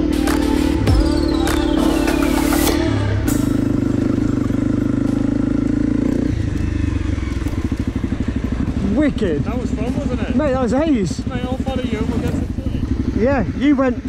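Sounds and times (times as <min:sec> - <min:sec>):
motorcycle engine running and idling: 0:00.0 - 0:14.0.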